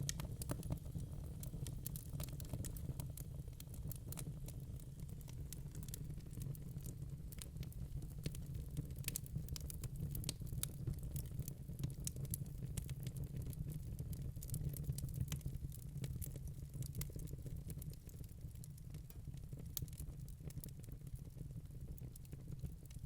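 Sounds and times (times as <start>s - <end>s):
log fire crackling: 0.0s - 23.0s.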